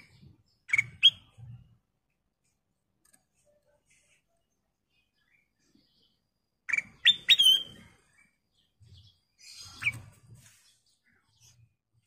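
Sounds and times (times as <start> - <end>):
bird chirping calls: 0.0 - 1.8, 3.9 - 12.0.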